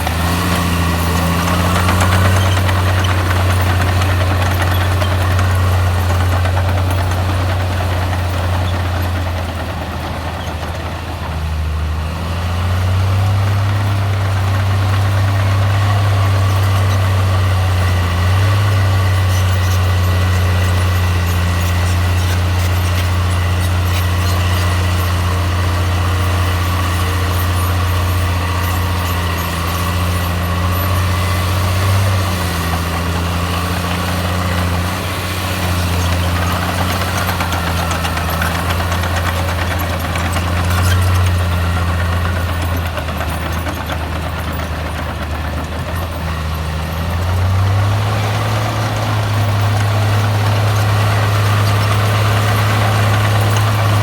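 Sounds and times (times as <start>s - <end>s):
bulldozer diesel engine humming: 0.0s - 54.0s.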